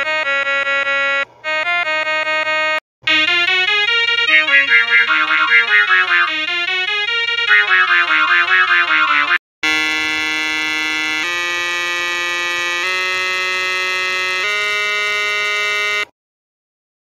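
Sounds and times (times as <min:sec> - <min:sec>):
buzzy electronic tone notes: 0:00.0 - 0:16.1.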